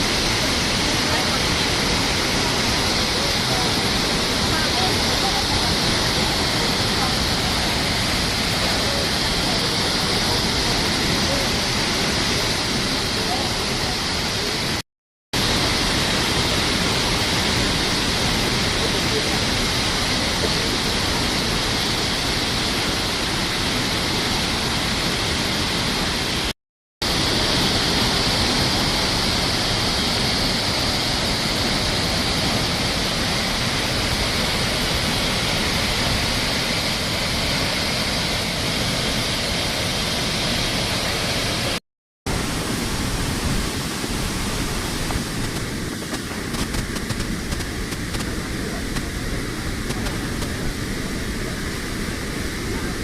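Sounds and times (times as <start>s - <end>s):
waterfall rushing: 0.0s - 14.8s, 15.4s - 53.0s.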